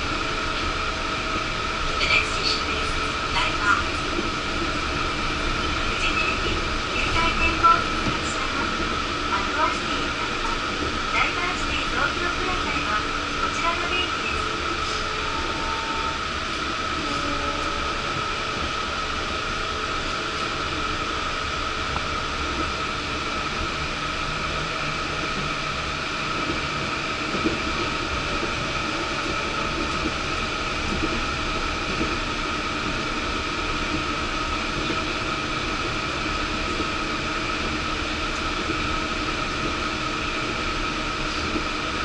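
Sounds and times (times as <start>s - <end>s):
train running noise: 0.0s - 42.0s.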